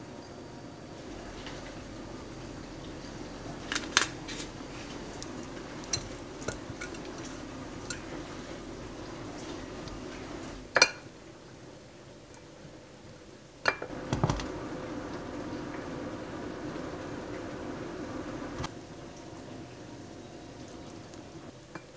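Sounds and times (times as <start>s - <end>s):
steady low hum: 0.0s - 11.4s, 13.9s - 21.7s.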